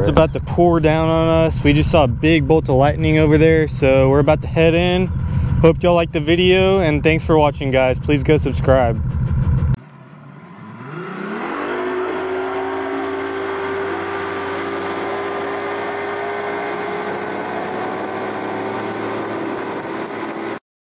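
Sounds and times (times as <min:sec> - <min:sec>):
outboard motor accelerating: 0:00.0 - 0:20.6.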